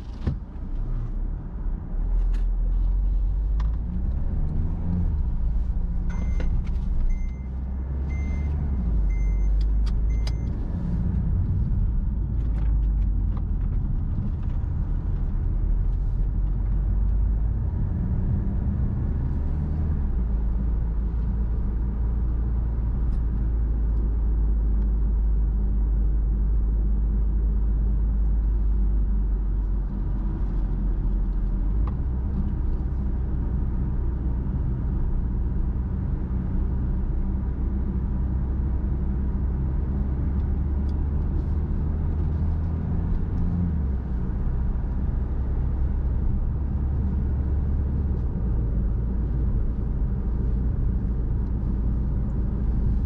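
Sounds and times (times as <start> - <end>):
car engine drone: 0.0 - 53.0
road noise: 0.0 - 53.0.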